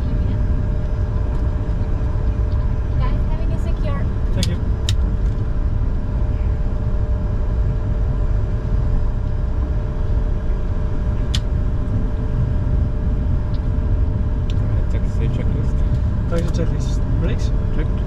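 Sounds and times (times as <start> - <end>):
jet cockpit rumble: 0.0 - 18.0.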